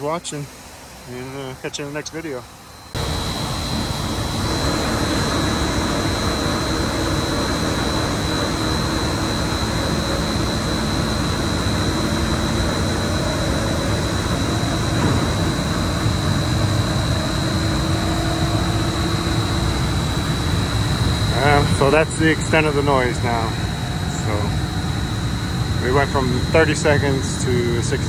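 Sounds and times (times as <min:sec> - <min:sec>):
cooling tower fan rushing: 0:00.0 - 0:28.0
thin high whine: 0:00.0 - 0:28.0.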